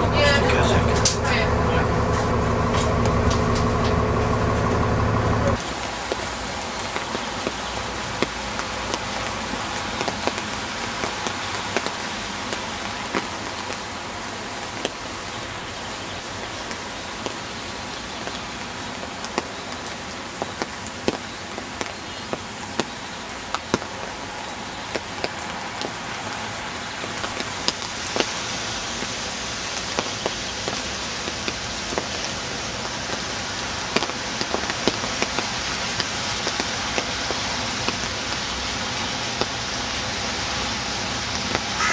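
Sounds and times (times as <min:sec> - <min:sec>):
steady rain falling: 0:00.0 - 0:41.9
raindrops ticking close: 0:05.6 - 0:41.9.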